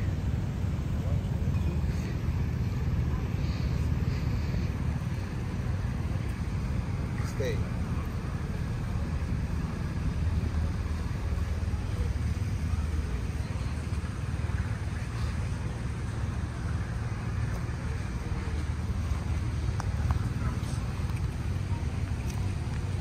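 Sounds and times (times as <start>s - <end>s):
low rumble of street traffic: 0.0s - 23.0s.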